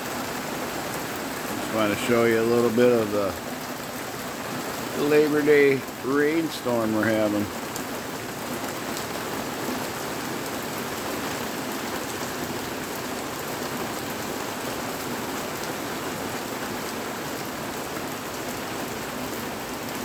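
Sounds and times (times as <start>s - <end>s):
heavy rain hissing: 0.0s - 20.0s
raindrops ticking on surfaces: 0.0s - 20.0s.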